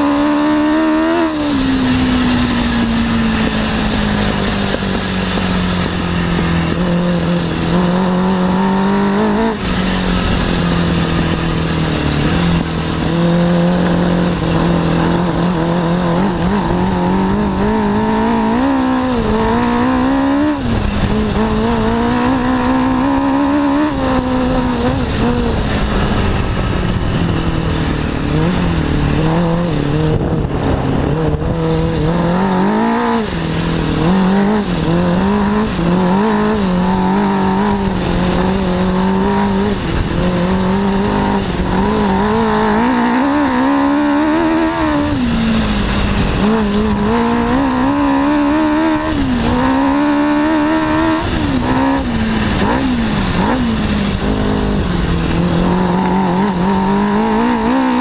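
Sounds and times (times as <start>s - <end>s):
buggy engine revving: 0.0s - 58.0s
rumble from rough ground: 0.0s - 58.0s
wind: 0.0s - 58.0s.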